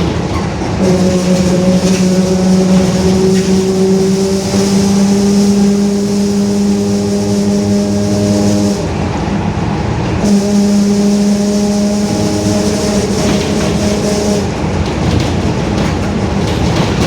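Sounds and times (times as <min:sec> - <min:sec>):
bus differential whine: 0:00.0 - 0:17.0.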